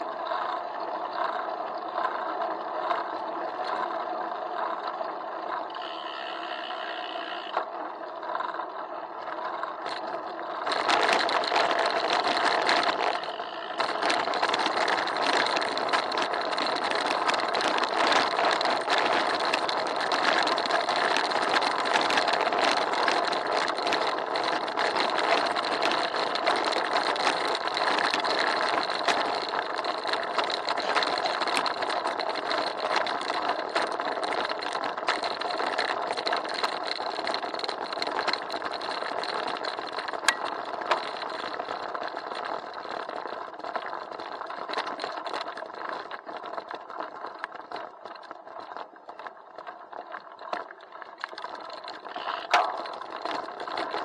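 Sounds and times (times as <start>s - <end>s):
bicycle road noise and rattle: 0.0s - 54.0s
wheels clattering over cobblestones: 0.0s - 54.0s.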